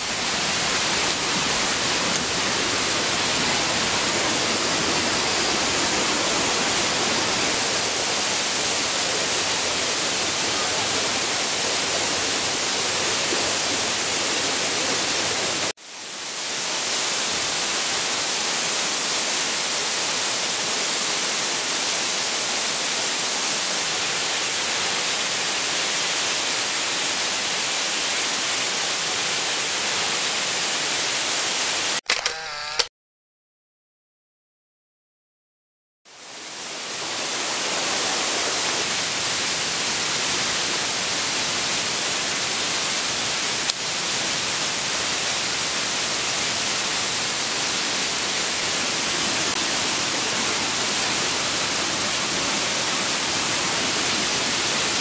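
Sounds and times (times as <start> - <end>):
stream and waterfall rushing: 0.0 - 32.0, 36.1 - 55.0.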